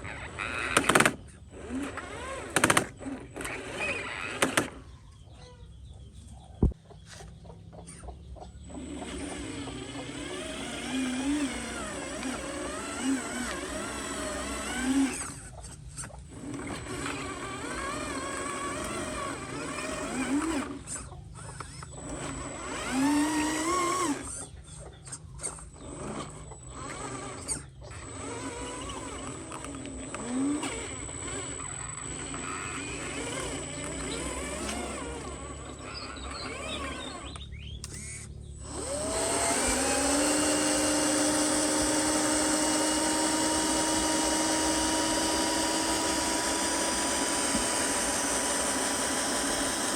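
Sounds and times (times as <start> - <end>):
small electric motors whining: 0.0 - 49.9.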